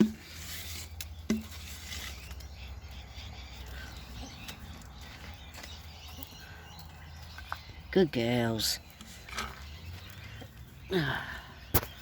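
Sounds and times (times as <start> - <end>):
hens pecking with light taps: 0.9 - 10.9.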